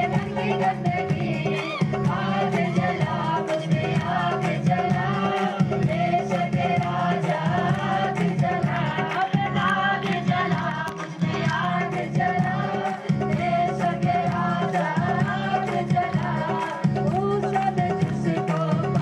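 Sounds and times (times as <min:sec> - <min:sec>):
instrumental accompaniment: 0:00.0 - 0:19.0
steady percussion beat: 0:00.0 - 0:19.0
voices singing worship song: 0:00.0 - 0:19.0.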